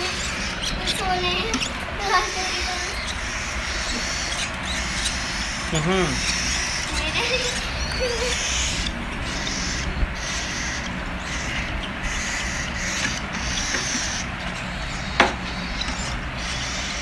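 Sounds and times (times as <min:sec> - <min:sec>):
bird chicks raspy begging calls: 0:00.0 - 0:17.0
steady low hum: 0:00.0 - 0:17.0.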